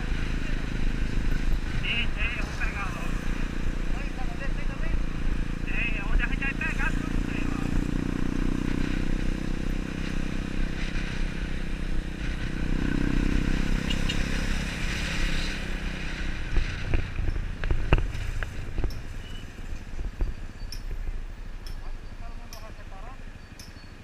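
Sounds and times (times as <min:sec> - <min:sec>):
motorcycle engine running: 0:00.0 - 0:23.6.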